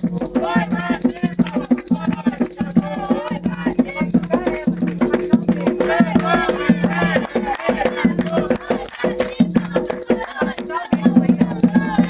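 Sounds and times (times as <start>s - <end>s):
rattles shaking rhythmically: 0.0s - 12.0s
voices singing a chant: 0.0s - 12.0s.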